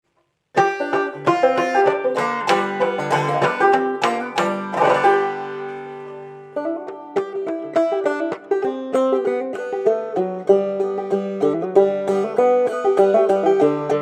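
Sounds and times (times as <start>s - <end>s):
banjo playing: 0.5s - 14.0s.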